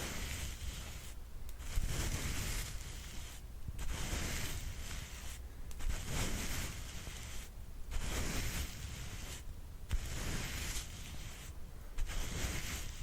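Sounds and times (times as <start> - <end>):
brush sweeping: 0.0 - 13.0.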